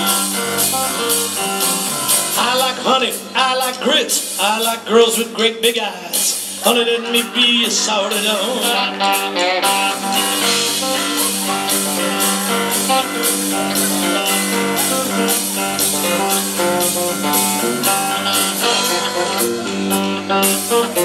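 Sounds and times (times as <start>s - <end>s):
electric guitar: 0.0s - 4.8s, 6.1s - 21.0s
drums beating: 0.0s - 21.0s.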